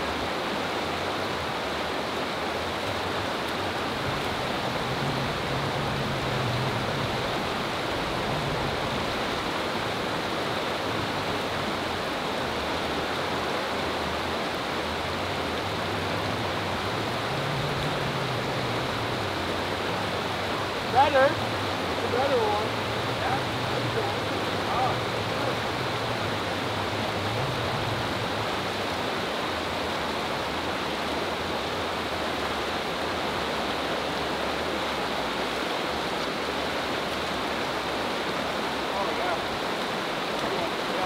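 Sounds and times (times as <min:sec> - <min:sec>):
creek water rushing over rocks: 0:00.0 - 0:41.0.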